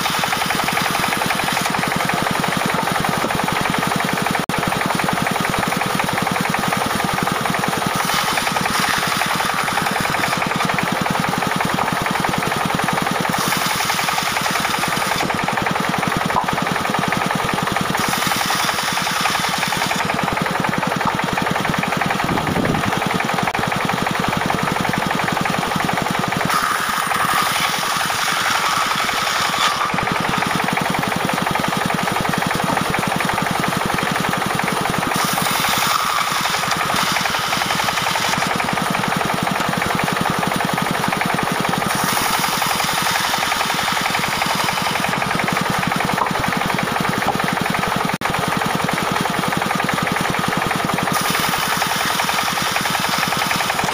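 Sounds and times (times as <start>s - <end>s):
saw blade cutting log: 0.0s - 53.9s
diesel engine knocking: 0.1s - 53.9s.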